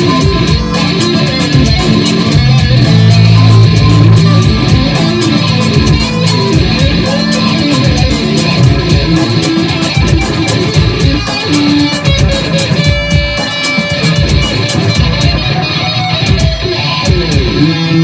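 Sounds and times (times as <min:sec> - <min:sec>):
electric guitar notes: 0:00.0 - 0:18.0.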